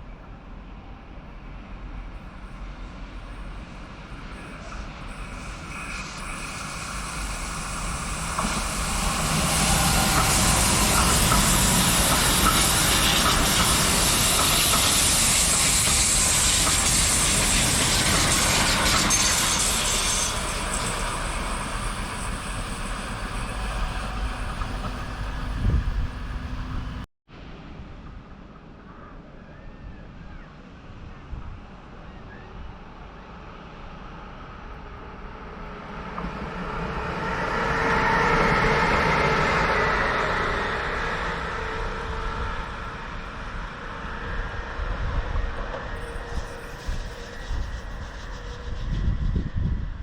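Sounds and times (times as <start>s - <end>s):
train passing on tracks: 0.0s - 29.4s, 30.7s - 50.0s.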